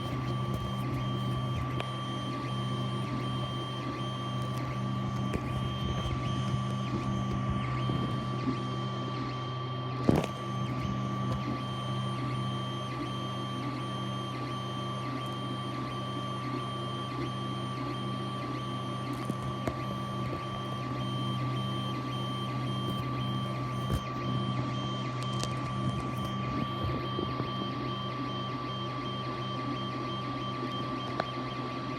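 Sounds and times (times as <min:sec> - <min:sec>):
three d printer humming: 0:00.0 - 0:31.9.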